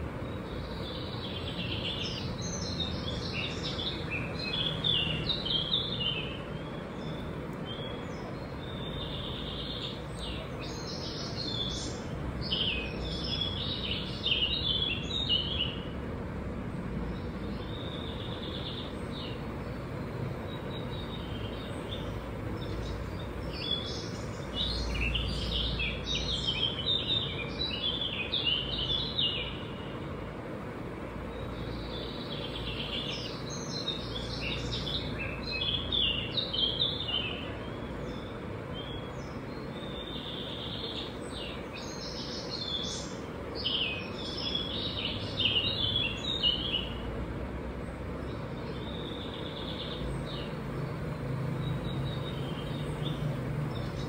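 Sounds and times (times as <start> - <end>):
steady background noise: 0.0 - 54.0
songbird chirping and singing: 0.1 - 16.0, 17.0 - 30.3, 31.1 - 54.0.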